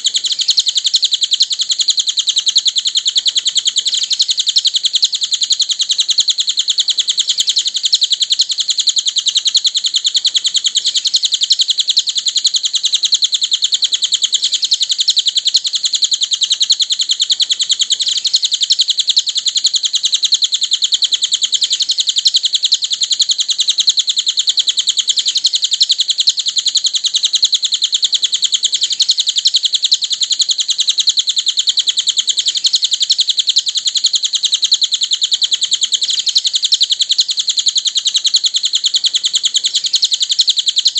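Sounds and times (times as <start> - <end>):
bird twittering chatter: 0.0 - 40.9.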